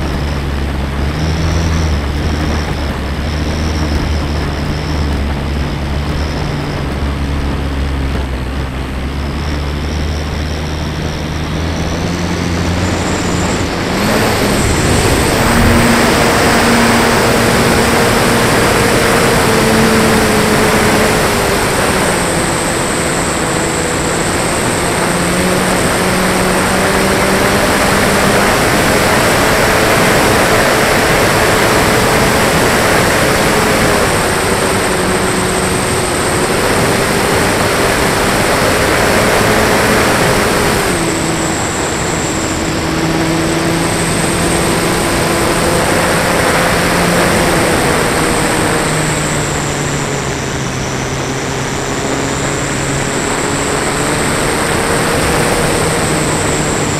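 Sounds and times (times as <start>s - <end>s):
high whine: 0.0s - 56.9s
model plane motor hum: 0.0s - 56.9s
rushing airflow: 0.0s - 56.9s.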